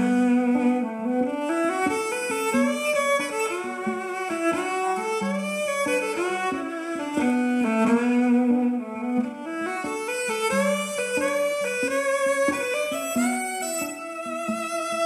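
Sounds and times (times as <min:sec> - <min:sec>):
layered violin playing: 0:00.0 - 0:15.0.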